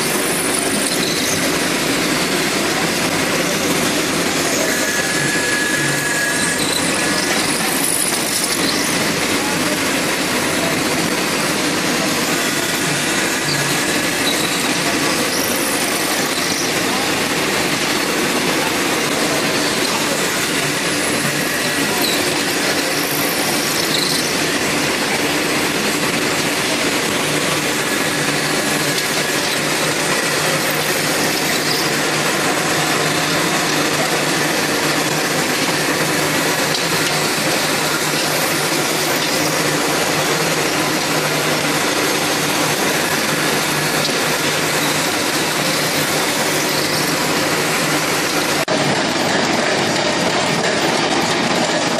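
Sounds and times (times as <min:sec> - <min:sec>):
production-line machinery running: 0:00.0 - 0:51.9.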